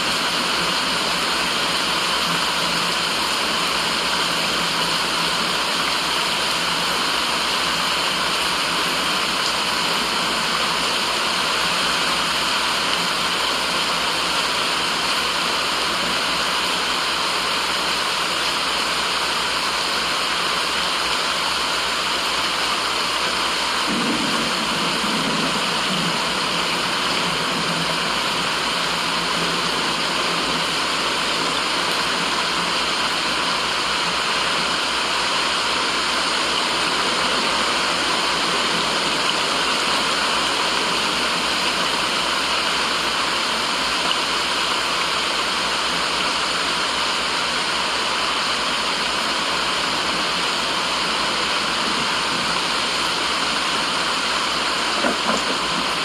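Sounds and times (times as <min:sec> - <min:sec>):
white-noise hiss: 0:00.0 - 0:56.0.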